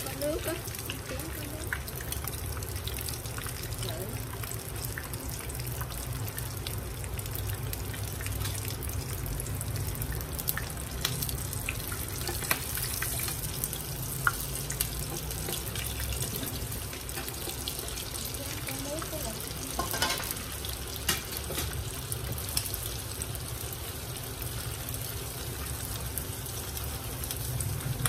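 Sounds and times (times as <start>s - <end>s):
water running from a tap: 0.0s - 23.4s.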